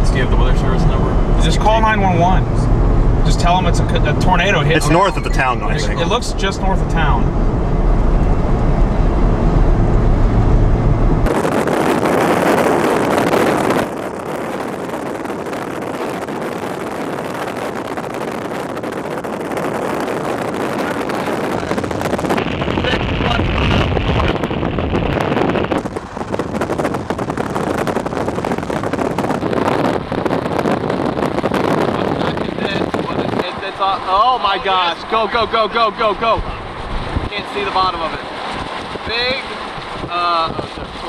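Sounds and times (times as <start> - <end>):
low vehicle rumble: 0.0 - 41.0
strong wind on microphone: 0.0 - 41.0.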